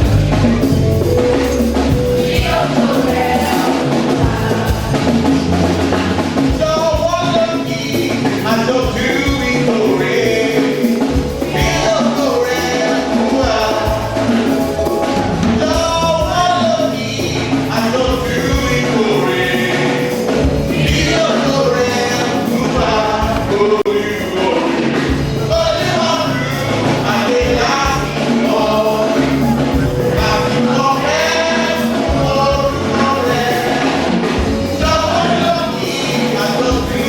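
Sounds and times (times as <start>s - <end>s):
choir singing gospel: 0.0s - 37.0s
instrumental backing with beat: 0.0s - 37.0s.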